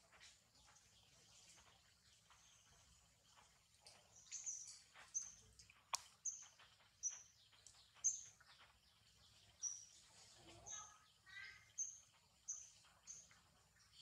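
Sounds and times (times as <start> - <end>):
small bird chirping: 0.0 - 14.0.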